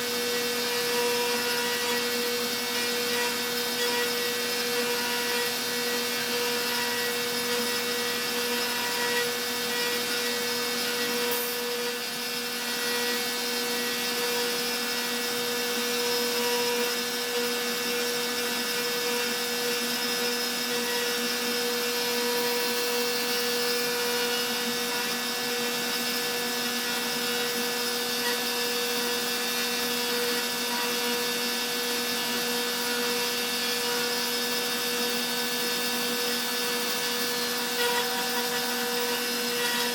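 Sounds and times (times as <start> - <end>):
bit carving wood: 0.0 - 39.9
router spindle whining: 0.0 - 39.9.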